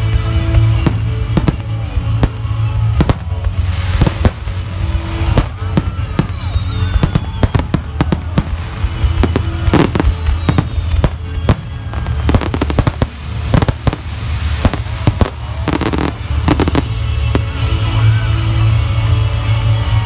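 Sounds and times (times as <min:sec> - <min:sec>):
firework shells bursting: 0:00.7 - 0:17.6.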